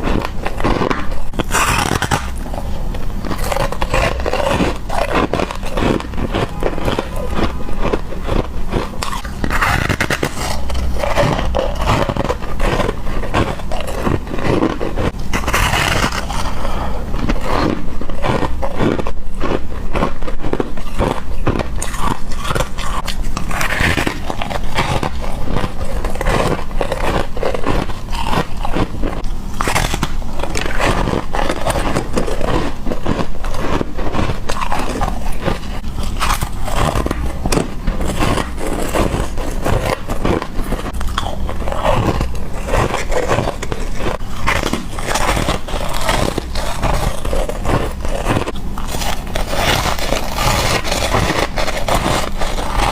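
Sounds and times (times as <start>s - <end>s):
person crunching ice: 0.0s - 52.9s.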